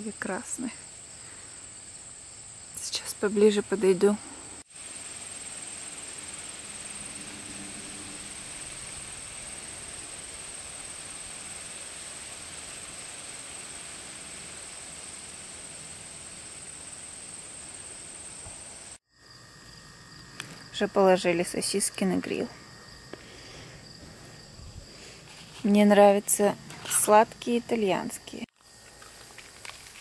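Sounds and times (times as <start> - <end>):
insects trilling: 0.0 - 30.0
soft outdoor hiss: 0.0 - 30.0.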